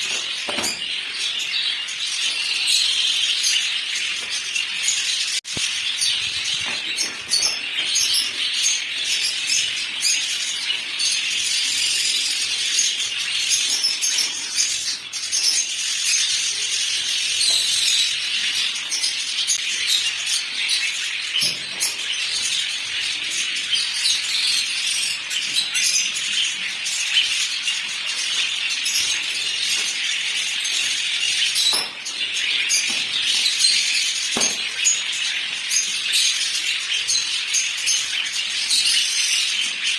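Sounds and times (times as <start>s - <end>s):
cage birds chirping: 0.0s - 39.9s.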